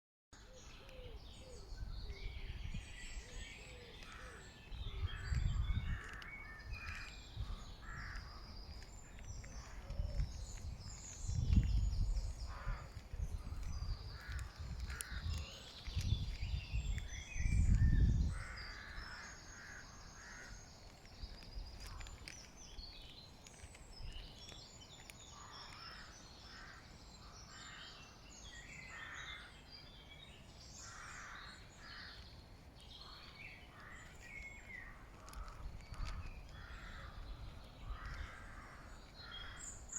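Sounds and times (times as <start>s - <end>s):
birds calling and singing: 0.4s - 39.9s.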